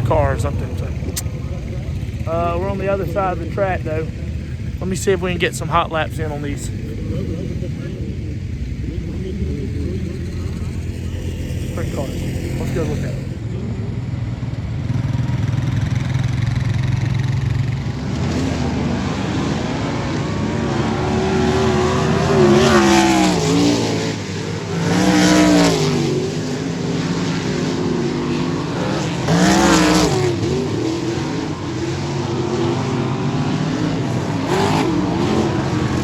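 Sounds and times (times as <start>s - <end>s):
race cars passing loudly: 0.0s - 36.0s.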